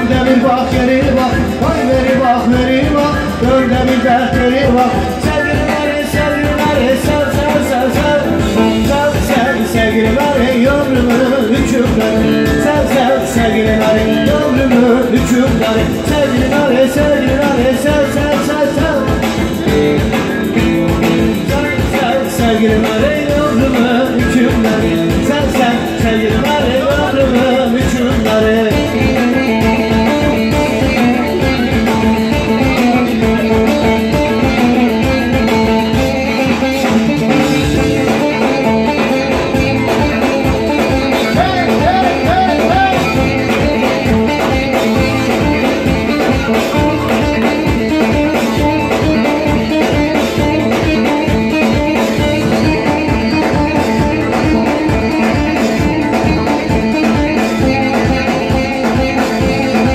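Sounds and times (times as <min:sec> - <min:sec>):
dance music with singer: 0:00.0 - 0:59.9.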